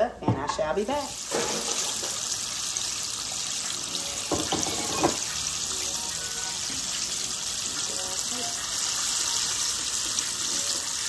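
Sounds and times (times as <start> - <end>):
oil bubbling and sizzling: 1.0 - 11.0.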